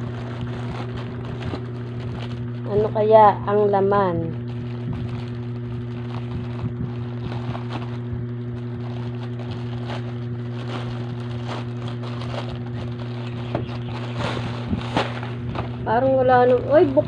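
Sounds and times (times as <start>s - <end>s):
plastic pouch crinkling: 0.0s - 3.1s, 3.8s - 17.0s
steady low hum: 0.0s - 17.0s.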